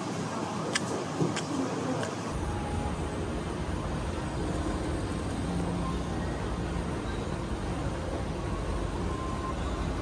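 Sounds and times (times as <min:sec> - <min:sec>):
moving vehicles rumble: 0:00.2 - 0:10.0.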